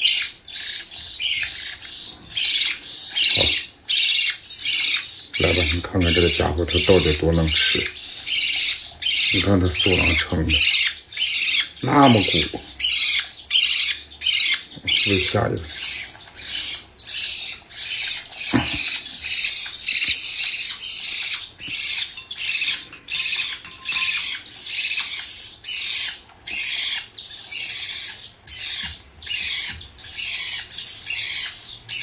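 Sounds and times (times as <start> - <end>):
parrot chick begging calls: 0.0 - 32.0.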